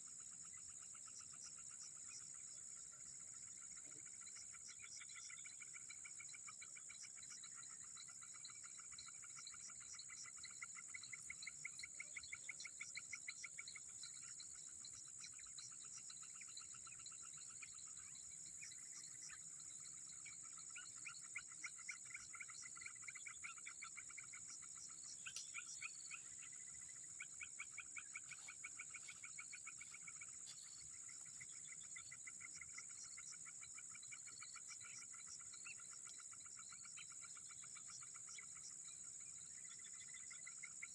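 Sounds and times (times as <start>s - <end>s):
rapid pulsed frog calls: 0.0s - 40.9s.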